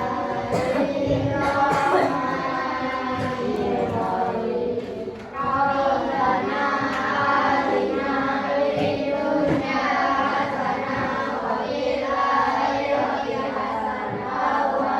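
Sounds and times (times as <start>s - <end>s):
children reciting prayer in unison: 0.0s - 14.9s.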